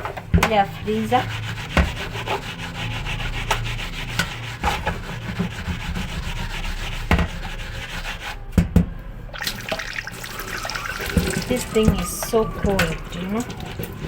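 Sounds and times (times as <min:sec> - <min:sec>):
cloth scrubbing inside freezer: 0:00.0 - 0:14.0.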